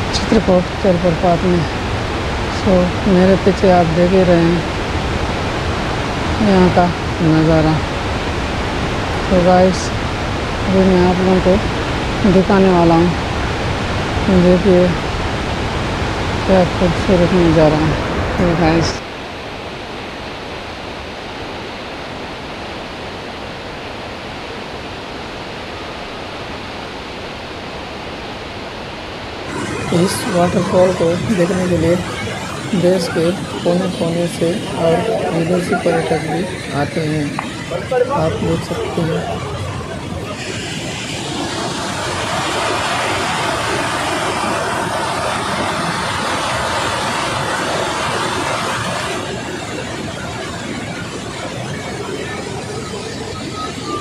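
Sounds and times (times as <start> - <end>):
waterfall rushing: 0.0 - 21.0, 29.4 - 54.0.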